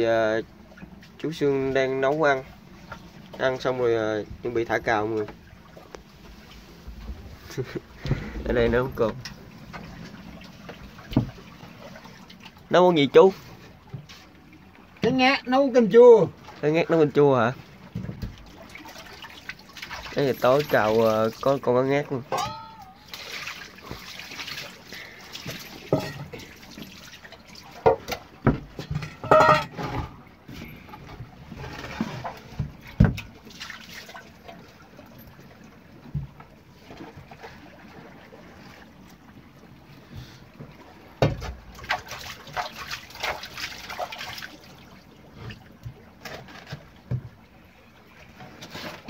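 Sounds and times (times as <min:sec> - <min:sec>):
water splashing onto a deck: 0:02.0 - 0:39.5, 0:40.2 - 0:47.4.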